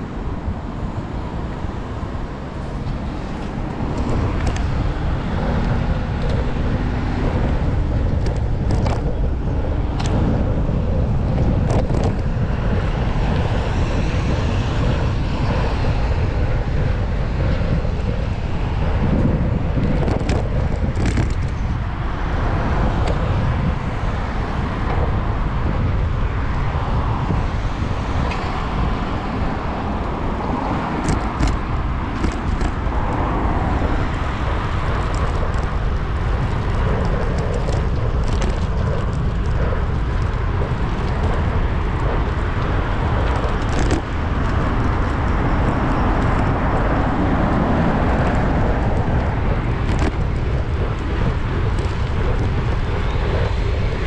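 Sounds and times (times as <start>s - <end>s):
traffic passing: 0.0s - 54.0s
wind and road noise rumble: 0.0s - 54.0s.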